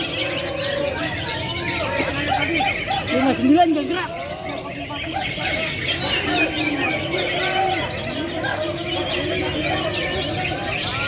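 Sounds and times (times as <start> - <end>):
caged birds singing: 0.0 - 11.0
crowd voices: 0.0 - 11.0.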